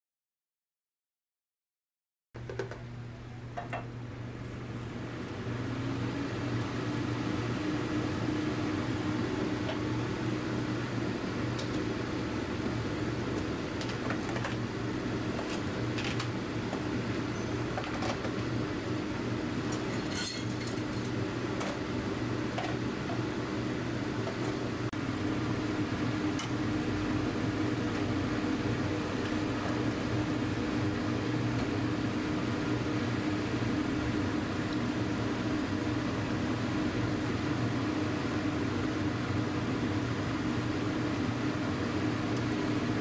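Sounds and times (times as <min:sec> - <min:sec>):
machine hum: 0:02.4 - 0:43.0.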